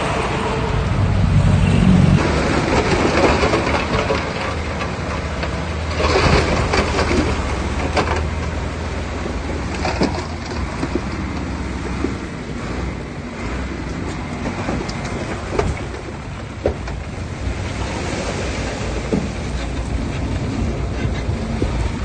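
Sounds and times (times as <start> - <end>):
diesel machinery engine running: 0.0 - 22.0
soil scraping and rumbling: 0.0 - 22.0.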